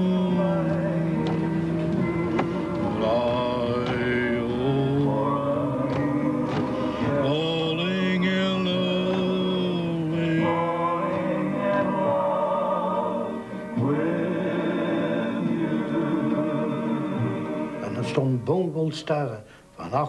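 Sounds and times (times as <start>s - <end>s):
music with singing voices: 0.0s - 20.0s.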